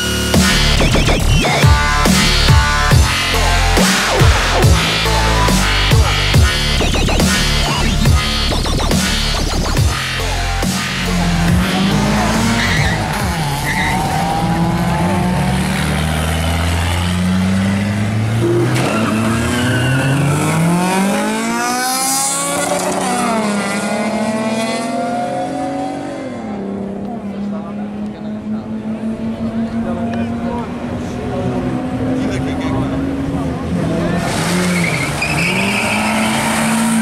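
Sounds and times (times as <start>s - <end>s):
tyres skidding and squealing: 0.0s - 23.9s, 30.5s - 37.0s
race car engine revving: 0.0s - 37.0s.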